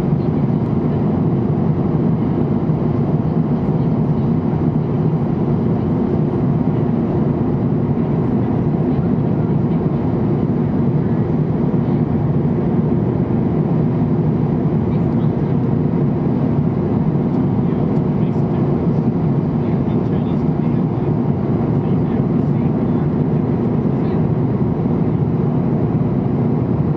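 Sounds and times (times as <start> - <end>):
jet airliner cabin rumble: 0.0 - 26.9.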